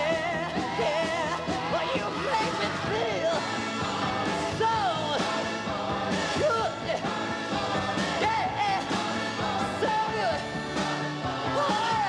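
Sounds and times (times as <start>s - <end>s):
backing band: 0.0s - 12.0s.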